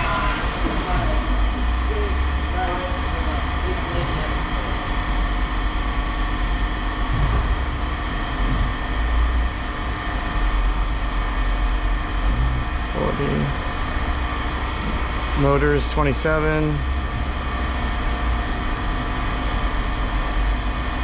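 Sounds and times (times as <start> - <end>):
machinery droning: 0.0 - 21.0.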